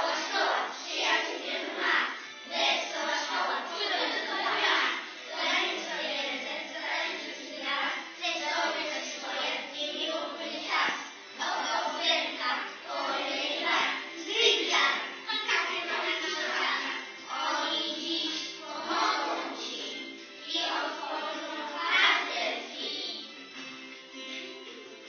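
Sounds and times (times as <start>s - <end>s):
children singing in unison: 0.0s - 23.3s.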